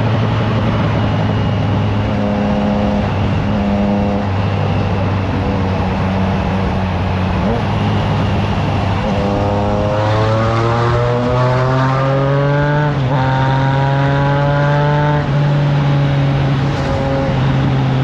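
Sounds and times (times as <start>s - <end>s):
motorcycle engine accelerating: 0.0s - 18.0s
wind rushing over microphone: 0.0s - 18.0s.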